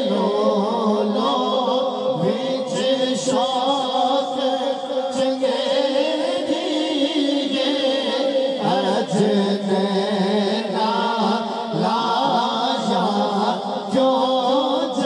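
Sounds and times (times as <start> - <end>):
man singing through a microphone: 0.0 - 15.0.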